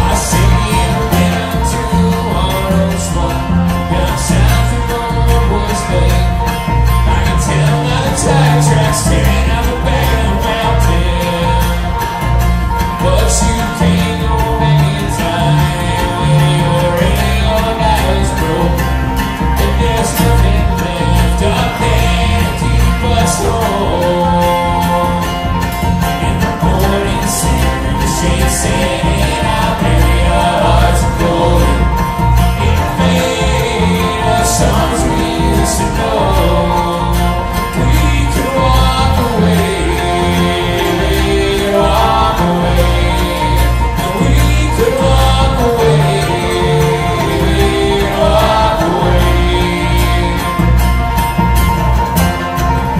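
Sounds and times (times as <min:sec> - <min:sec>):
acoustic guitar: 0:00.0 - 0:52.9
banjo: 0:00.0 - 0:52.9
bluegrass string band playing: 0:00.0 - 0:52.9
mandolin: 0:00.0 - 0:52.9
upright bass: 0:00.0 - 0:52.9.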